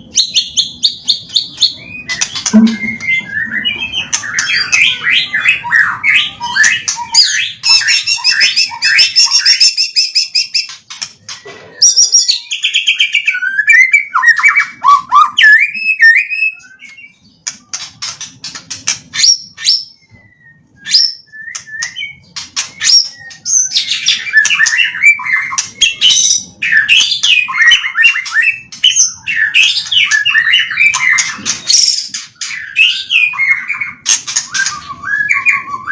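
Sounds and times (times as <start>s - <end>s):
songbird singing whistles and trills: 0.0s - 35.9s.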